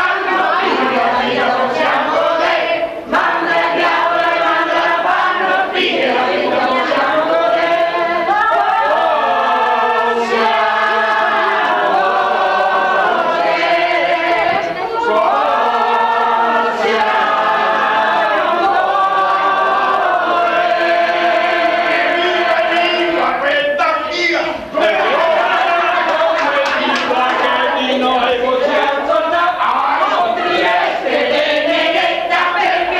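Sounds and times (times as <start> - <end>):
group singing unaccompanied: 0.0 - 32.9.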